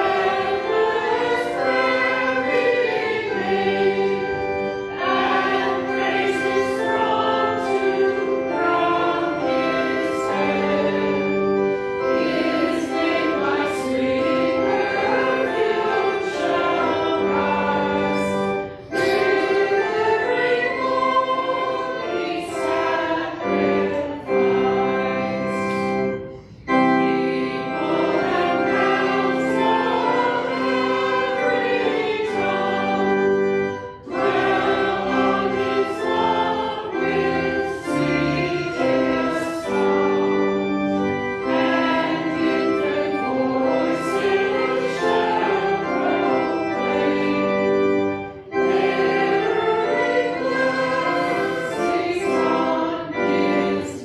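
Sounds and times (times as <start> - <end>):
congregation singing a hymn: 0.0 - 54.0
organ: 0.0 - 54.0.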